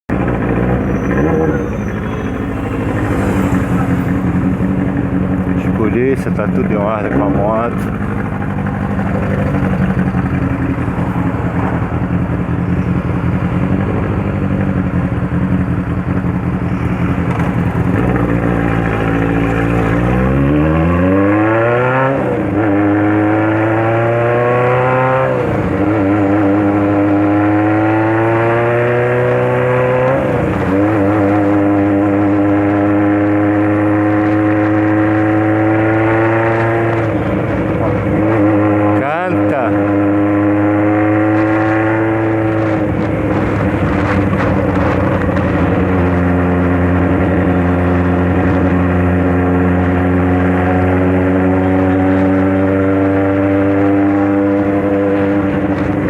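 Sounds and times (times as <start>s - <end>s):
motorcycle engine revving: 0.1s - 56.0s.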